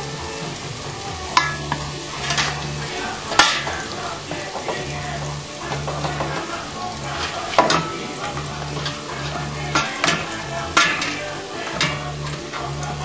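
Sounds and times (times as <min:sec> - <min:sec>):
food sizzling in a frying pan: 0:00.0 - 0:13.0
utensil clacking against pan: 0:01.3 - 0:13.0.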